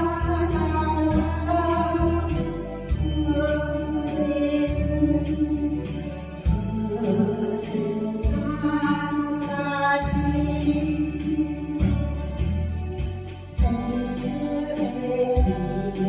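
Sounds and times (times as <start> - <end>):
slow folk ballad music: 0.0 - 16.0.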